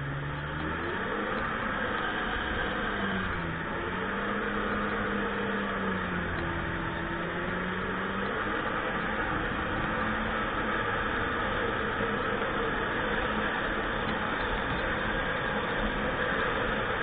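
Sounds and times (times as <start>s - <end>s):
personal watercraft engine running: 0.0s - 17.0s.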